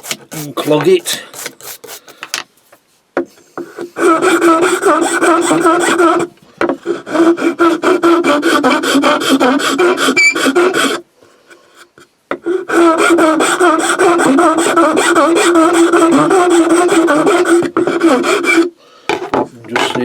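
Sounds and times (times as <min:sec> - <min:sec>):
file rasping on wood: 0:00.0 - 0:02.0, 0:03.6 - 0:11.0, 0:12.4 - 0:20.0.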